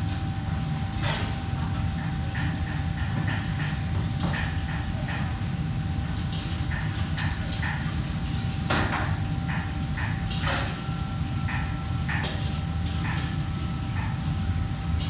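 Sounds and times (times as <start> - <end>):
low rumble of kitchen equipment: 0.0 - 15.0.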